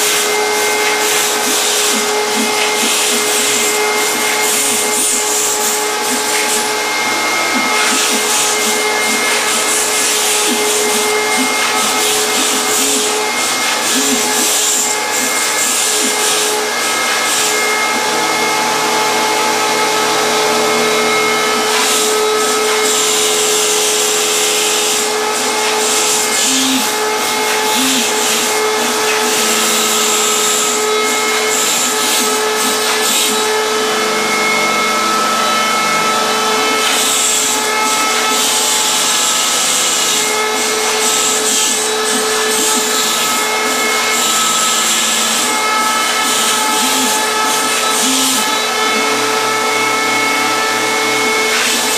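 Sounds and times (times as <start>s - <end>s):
router spindle whining: 0.0s - 51.9s
stepper motors whining: 0.0s - 51.9s.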